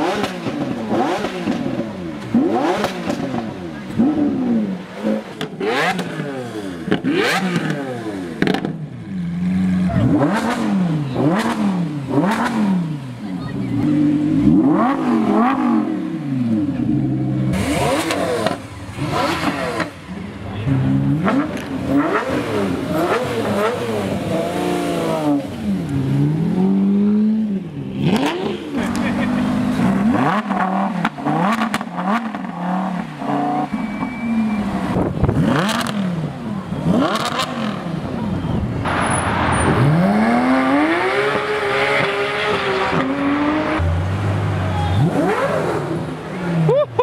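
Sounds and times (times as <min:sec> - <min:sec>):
car engine revving: 0:00.0 - 0:46.8.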